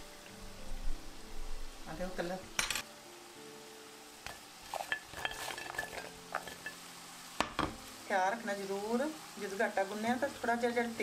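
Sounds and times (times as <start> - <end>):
oil sizzling in a frying pan: 1.1 - 11.0.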